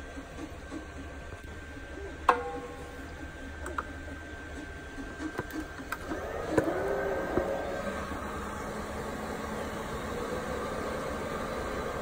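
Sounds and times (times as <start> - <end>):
cooling fans whirring: 0.0 - 12.0
hum of machines running: 0.0 - 12.0.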